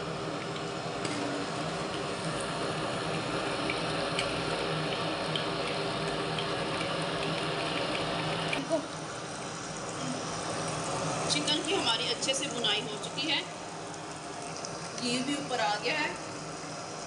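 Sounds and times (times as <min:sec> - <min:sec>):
curry sizzling and bubbling in a pot: 0:00.0 - 0:17.0.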